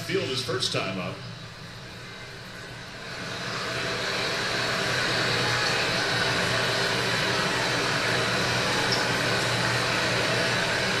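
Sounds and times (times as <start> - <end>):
crowd murmur through tv speaker: 0.0 - 11.0.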